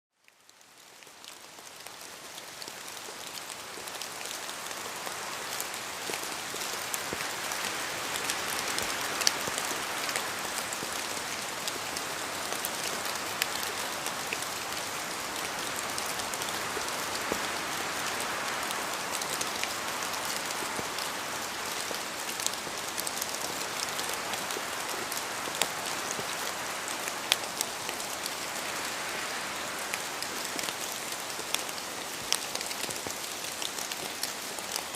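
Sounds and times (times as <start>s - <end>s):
rain falling in a forest: 0.1s - 34.9s.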